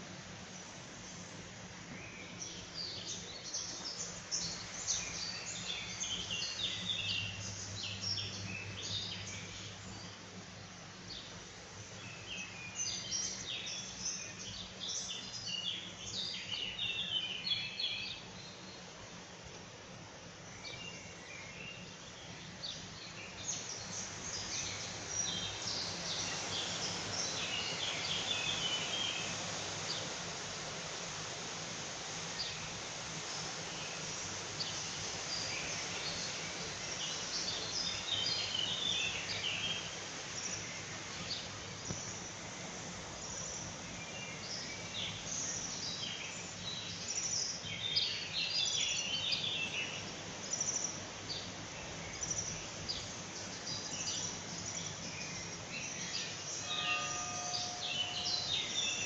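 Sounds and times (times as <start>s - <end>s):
outdoor background hiss: 0.0s - 59.0s
wild birds singing and chirping: 0.0s - 59.0s.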